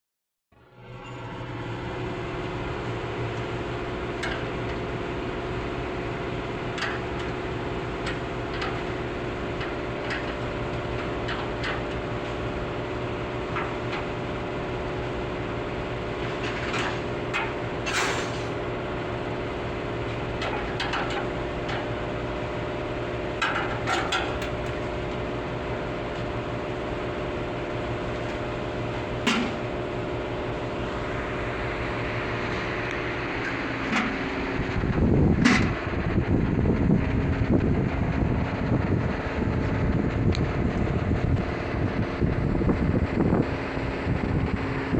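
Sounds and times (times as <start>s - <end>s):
machine hum: 0.6s - 44.9s.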